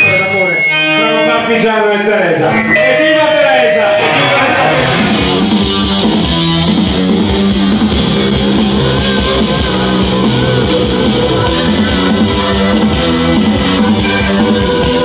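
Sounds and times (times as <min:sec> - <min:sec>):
guitar rock music: 0:00.0 - 0:15.0.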